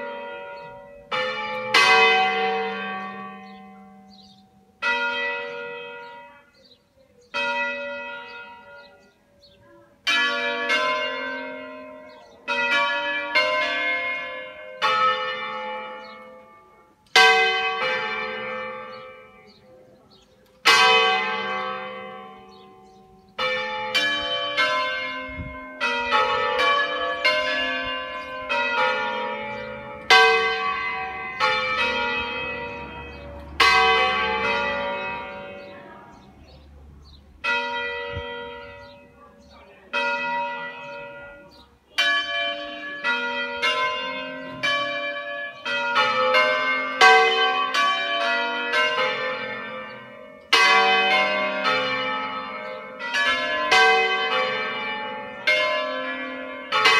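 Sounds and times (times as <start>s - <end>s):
church bells ringing: 0.0s - 56.9s.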